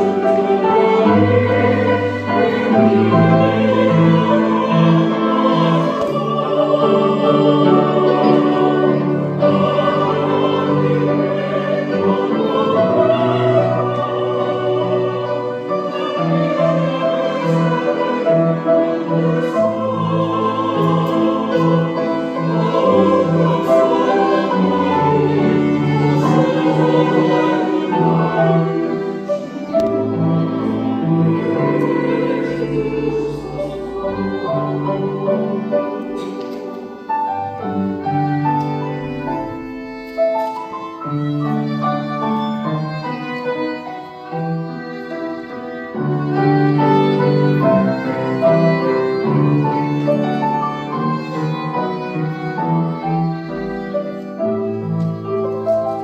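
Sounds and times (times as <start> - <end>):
church choir singing: 0.0 - 56.0
piano: 0.0 - 56.0
violin: 0.0 - 56.0.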